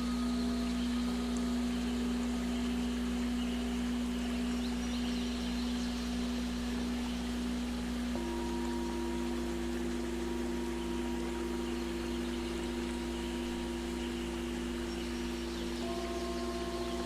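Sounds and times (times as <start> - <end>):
higher steady tone: 0.0 - 17.0
hiss-like noise: 0.0 - 17.0.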